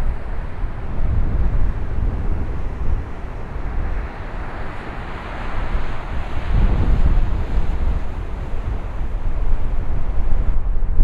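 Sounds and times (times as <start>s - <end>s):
gale-force wind buffeting microphone: 0.0s - 11.0s
rough sea rushing: 0.0s - 11.0s.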